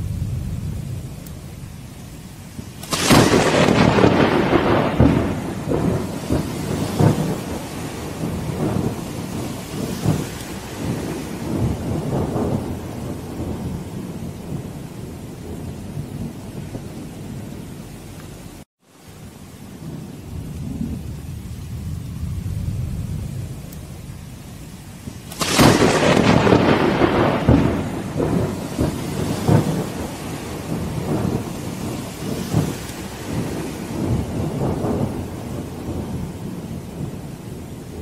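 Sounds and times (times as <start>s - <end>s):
rolling thunder: 0.0s - 18.1s, 19.8s - 38.0s
heavy rain: 0.0s - 38.0s.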